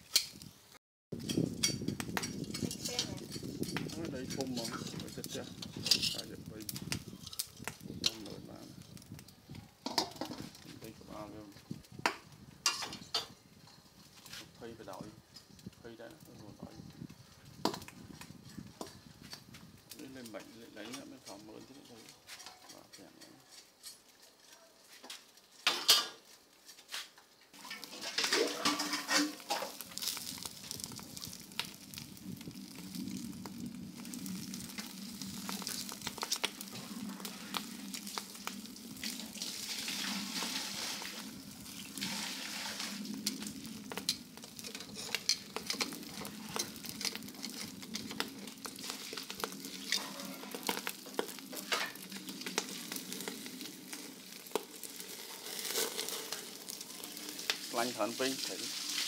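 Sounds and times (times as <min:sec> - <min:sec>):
fat sizzling on hot coals: 0:00.0 - 0:59.0.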